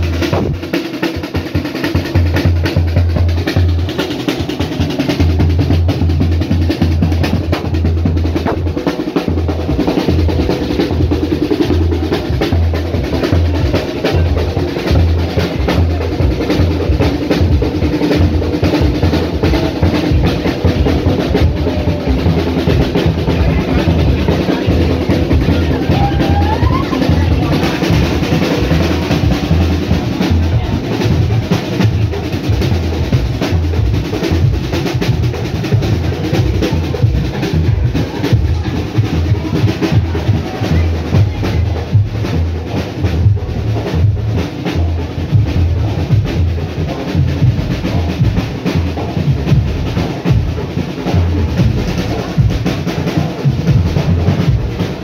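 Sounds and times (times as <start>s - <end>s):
bass drum beating: 0.0s - 55.0s
snare drum beating: 0.0s - 55.0s.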